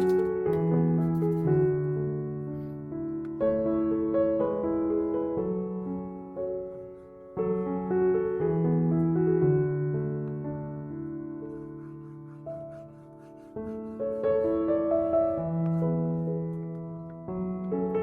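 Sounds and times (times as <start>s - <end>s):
slow gentle piano piece: 0.0s - 18.0s.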